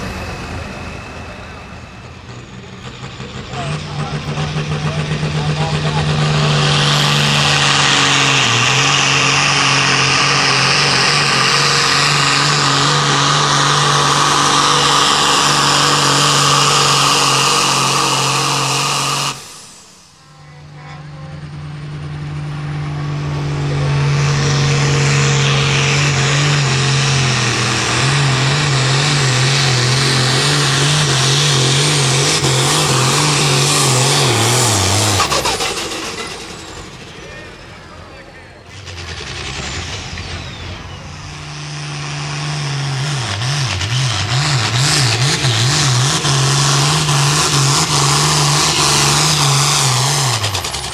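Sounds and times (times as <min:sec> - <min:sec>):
tractor engine at full throttle: 0:00.0 - 0:50.9.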